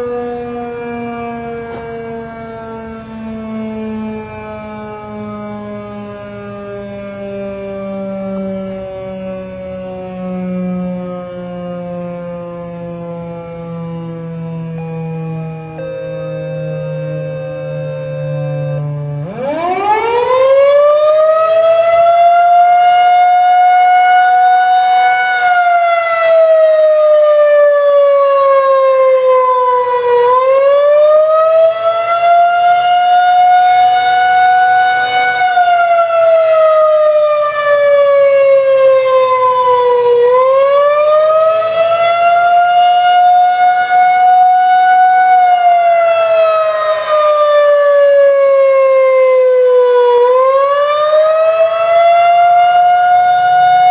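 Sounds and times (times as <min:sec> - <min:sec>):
electromechanical siren wailing: 0:00.0 - 0:53.9.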